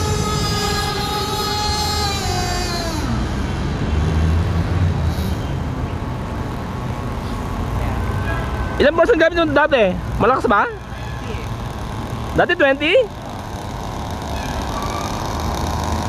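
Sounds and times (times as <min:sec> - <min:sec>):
model boat motor whining: 0:00.0 - 0:16.0.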